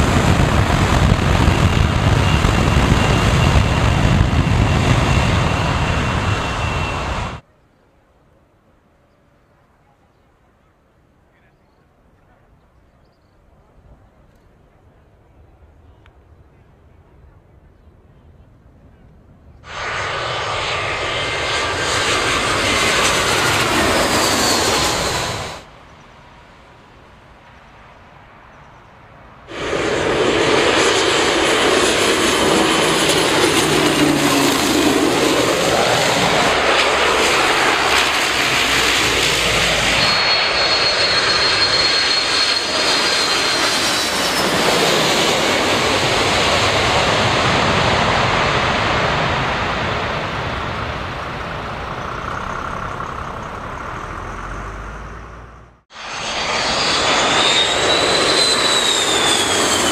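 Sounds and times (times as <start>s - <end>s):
turboprop plane passing overhead: 0.0s - 7.4s, 14.0s - 59.9s
airliner engines approaching: 0.0s - 7.5s, 12.2s - 59.9s
jet engines at takeoff power: 0.0s - 7.5s, 19.4s - 59.9s.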